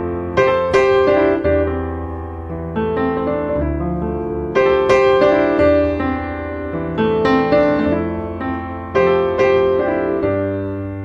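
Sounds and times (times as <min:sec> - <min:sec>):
piano playing chords: 0:00.0 - 0:11.0.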